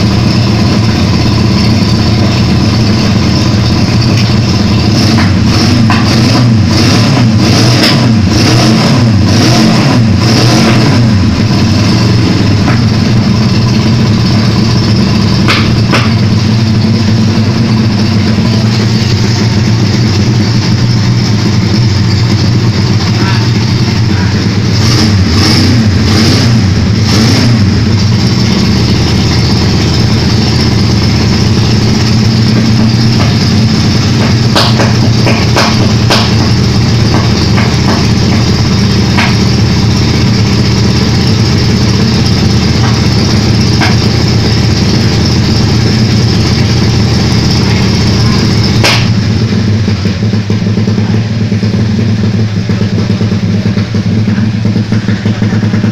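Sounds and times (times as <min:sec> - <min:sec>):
four-cylinder engine running: 0:00.0 - 0:55.9.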